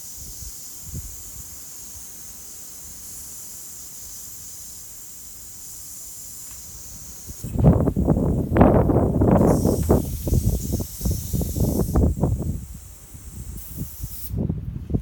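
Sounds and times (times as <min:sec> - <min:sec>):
compressed air hissing into tire: 0:00.0 - 0:14.4.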